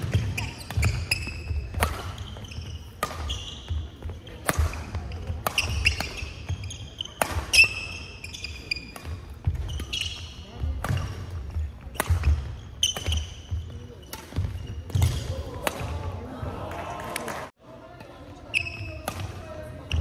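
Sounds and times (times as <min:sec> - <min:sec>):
shoes squeaking on court: 0:00.0 - 0:15.6, 0:18.3 - 0:20.0
rackets striking shuttlecock: 0:00.0 - 0:16.1, 0:18.6 - 0:20.0.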